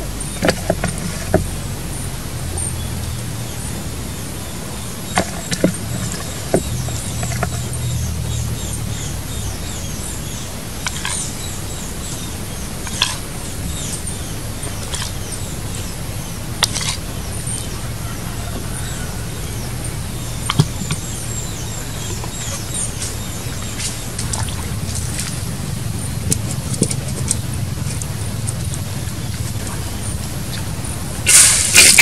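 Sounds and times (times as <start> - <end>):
birds chirping: 0.0 - 32.0
steady low rumble: 0.0 - 32.0.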